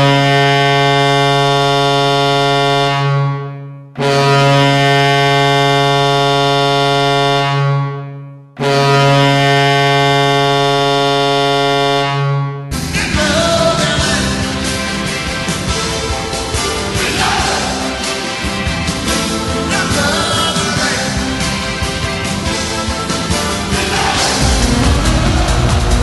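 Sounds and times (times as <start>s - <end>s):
goal horn blasts: 0.0s - 12.8s, 13.4s - 26.0s.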